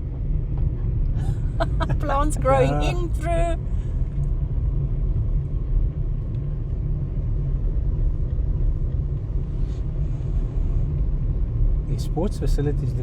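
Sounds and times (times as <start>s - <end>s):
car driving: 0.0s - 13.0s.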